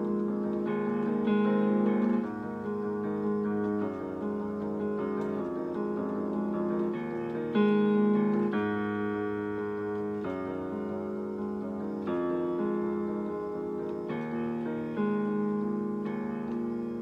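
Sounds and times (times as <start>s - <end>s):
piano chords on keyboard: 0.0s - 17.0s.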